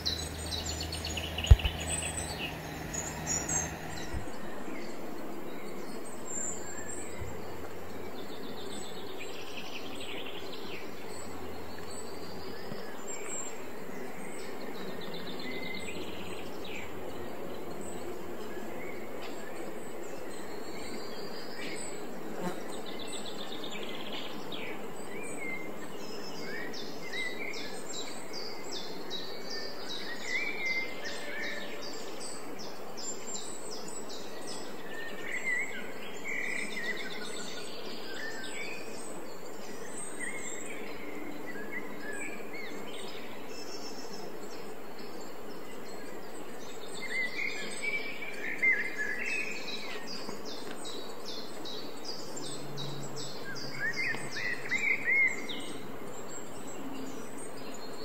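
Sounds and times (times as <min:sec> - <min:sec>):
small birds chirping: 0:00.0 - 0:58.0
steady background hiss: 0:00.0 - 0:58.0.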